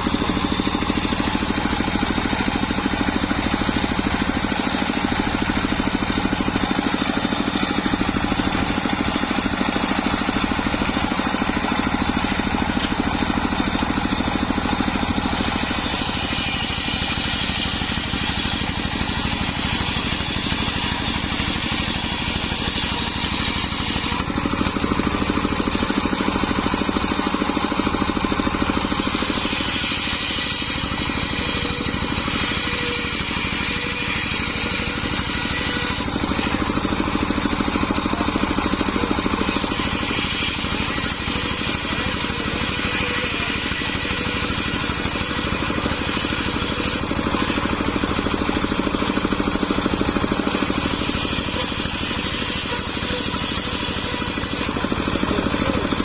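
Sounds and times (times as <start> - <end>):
saw blade cutting wood hiss: 0.0 - 55.6
circular saw motor droning: 0.0 - 56.0.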